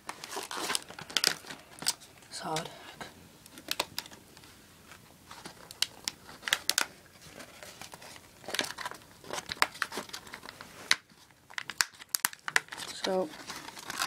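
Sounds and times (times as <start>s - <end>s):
plastic packaging crinkling: 0.0s - 2.6s, 3.4s - 14.0s.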